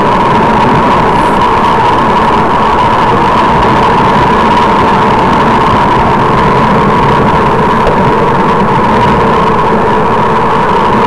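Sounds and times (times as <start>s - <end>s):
road noise: 0.0s - 11.0s
steady high hum: 0.0s - 11.0s
wind rushing over microphone: 0.0s - 11.0s.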